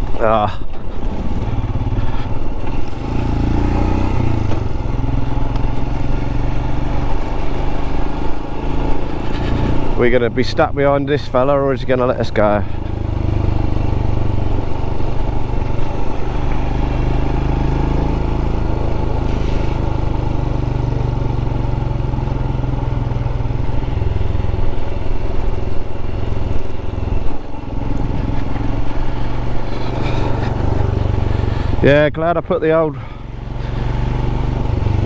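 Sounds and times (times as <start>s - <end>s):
motorcycle engine cruising: 0.0s - 35.0s.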